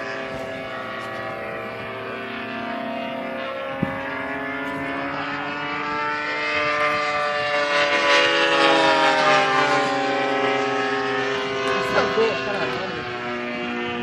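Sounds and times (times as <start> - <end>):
model plane engine in flight: 0.0 - 14.0.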